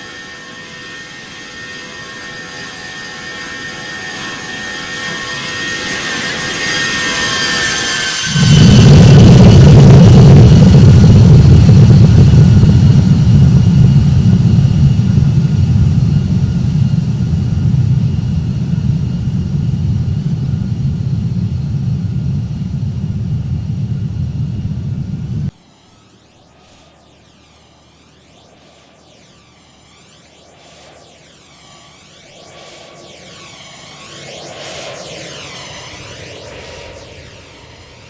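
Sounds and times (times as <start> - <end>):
jet engine roar: 0.0 - 38.0
steady high whine: 0.0 - 38.0.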